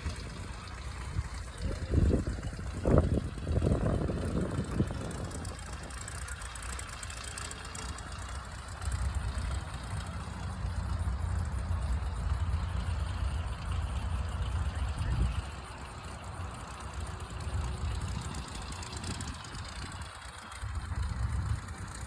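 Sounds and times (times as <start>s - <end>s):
light aircraft engine rumble: 0.0s - 22.0s.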